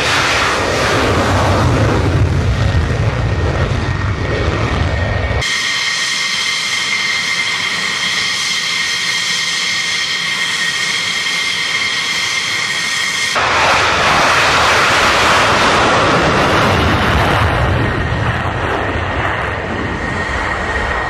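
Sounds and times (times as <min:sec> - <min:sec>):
jet engine at high power: 0:00.0 - 0:21.0
jet engines idling whine: 0:00.0 - 0:21.0.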